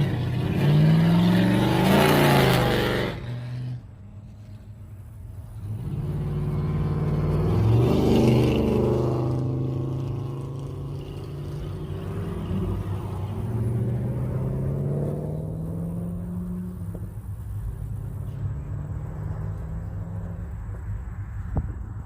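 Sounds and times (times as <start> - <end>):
car engines driving past: 0.0 - 22.0.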